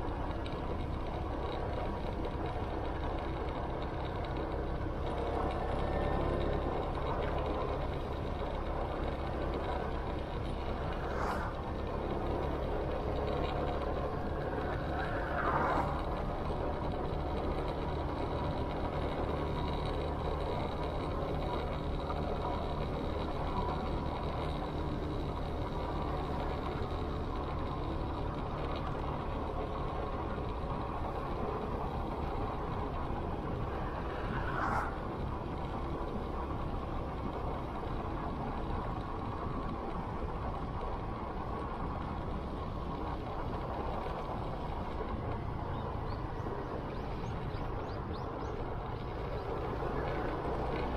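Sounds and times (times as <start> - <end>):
motorcycle engine running: 0.0 - 50.9
wind and road noise: 0.0 - 50.9.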